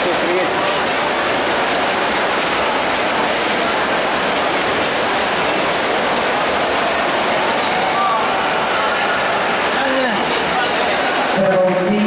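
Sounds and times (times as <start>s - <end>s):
swimmers splashing: 0.0s - 12.0s.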